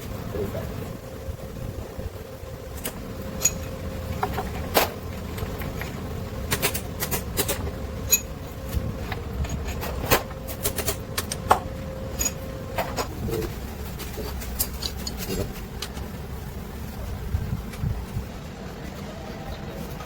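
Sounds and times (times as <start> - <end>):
low workshop hum: 0.0 - 20.0.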